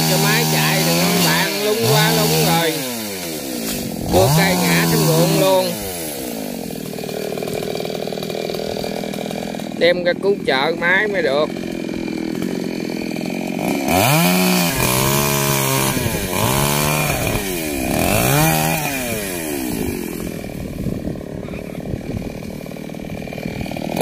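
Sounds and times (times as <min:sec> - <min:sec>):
chainsaw cutting branches: 0:00.0 - 0:24.0.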